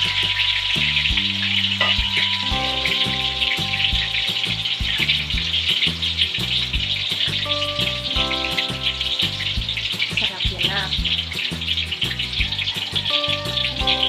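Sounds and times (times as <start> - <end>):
background music with pulse: 0.0 - 14.0
tofu deep-frying in oil: 0.0 - 14.0.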